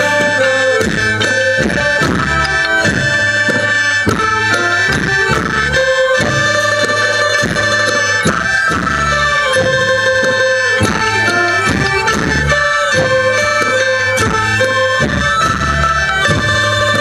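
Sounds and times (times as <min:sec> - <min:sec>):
drum beats: 0:00.0 - 0:17.0
reedy folk melody: 0:00.0 - 0:17.0.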